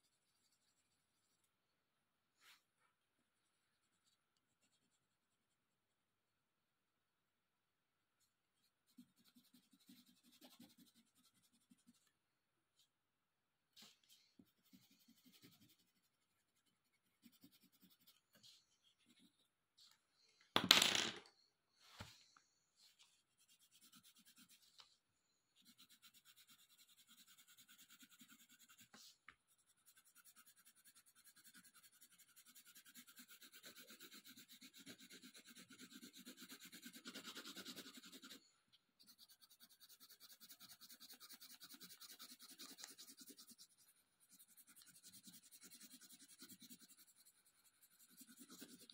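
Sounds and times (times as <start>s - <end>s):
pencil scratching on paper: 0.0s - 1.6s, 2.4s - 5.8s, 8.2s - 12.1s, 13.7s - 20.0s, 22.8s - 24.9s, 25.6s - 48.9s.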